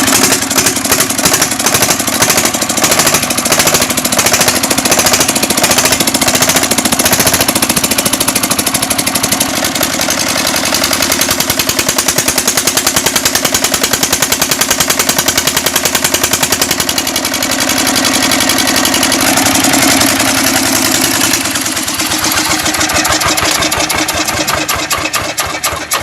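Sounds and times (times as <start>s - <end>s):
stationary diesel engine running: 0.0s - 26.0s.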